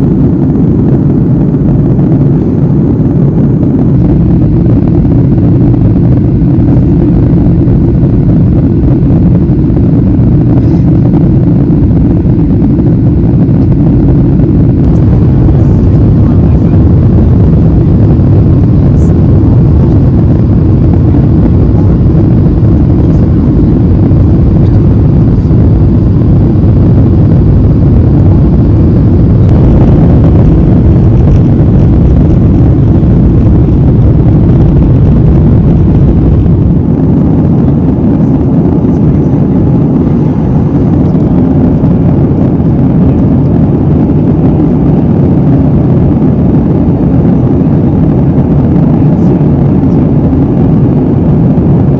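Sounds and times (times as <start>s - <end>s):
jet engines and airflow rumble: 0.0s - 51.9s.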